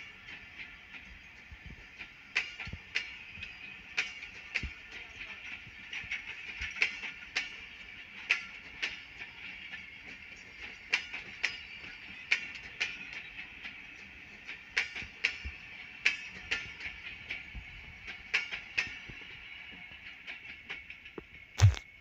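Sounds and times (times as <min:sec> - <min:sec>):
train wheels clicking over rail joints: 0:00.0 - 0:21.6.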